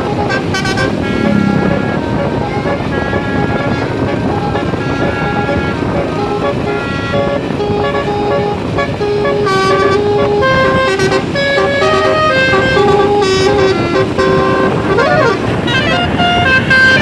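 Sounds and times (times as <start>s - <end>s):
engine and traffic noise: 0.0s - 17.0s
multi-note bus air horn tune: 0.0s - 17.0s.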